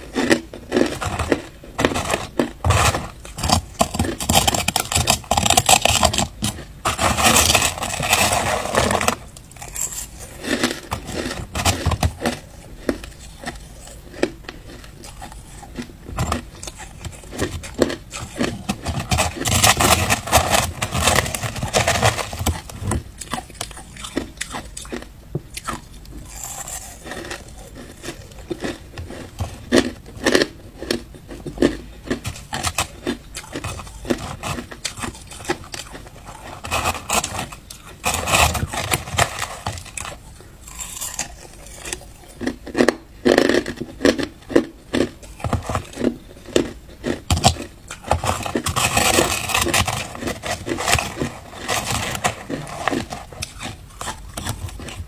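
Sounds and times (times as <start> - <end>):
crushed ice crunching when chewed: 0.0 - 55.0
metal spoon scraping ice: 0.2 - 24.2, 26.2 - 28.5, 32.3 - 42.4, 47.3 - 55.0.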